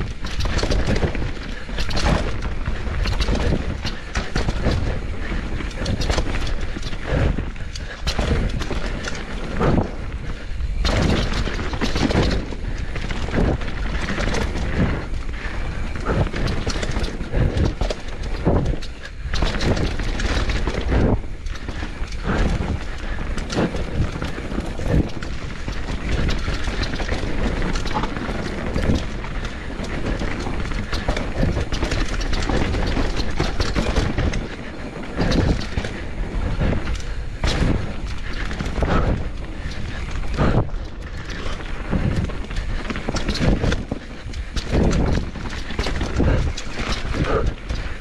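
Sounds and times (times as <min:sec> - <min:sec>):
bike rattling over rough trail: 0:00.0 - 0:48.0.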